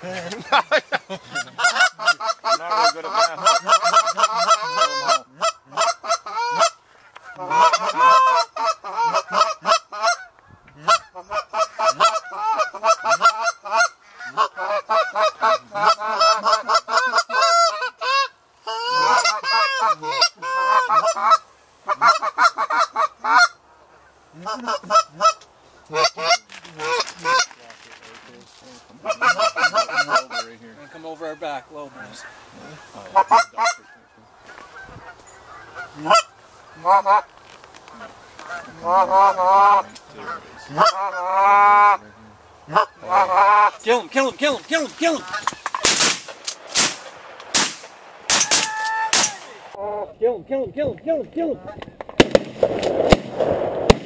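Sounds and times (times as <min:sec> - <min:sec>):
geese honking: 0:01.1 - 0:28.1, 0:29.0 - 0:46.2, 0:48.3 - 0:49.7.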